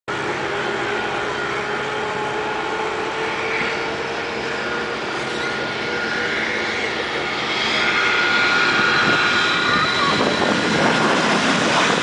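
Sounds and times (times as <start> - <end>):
jet engines rushing and whining: 0.1 - 12.0.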